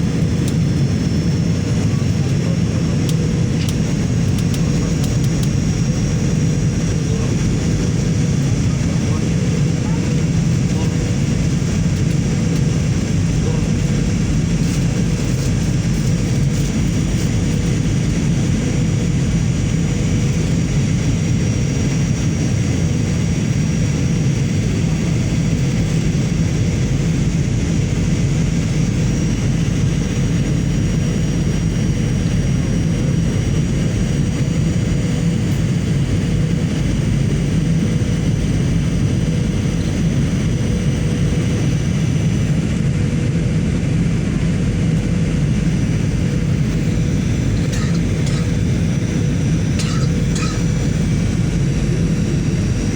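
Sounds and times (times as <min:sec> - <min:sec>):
faint steady whine: 0:00.0 - 0:52.9
low rumble of engines and airflow: 0:00.0 - 0:52.9.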